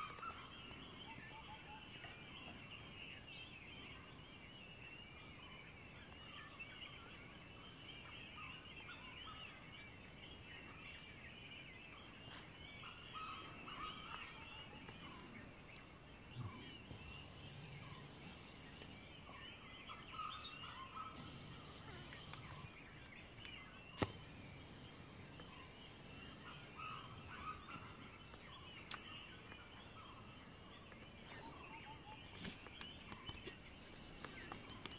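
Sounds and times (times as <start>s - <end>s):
birds singing and calling: 0.0s - 34.9s.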